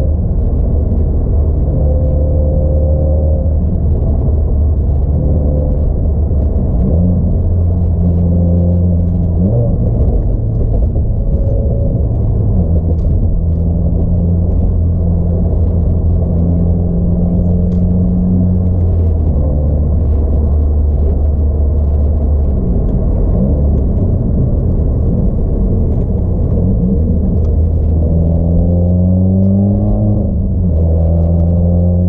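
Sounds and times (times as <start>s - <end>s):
car engine and exhaust rumbling: 0.0s - 32.0s.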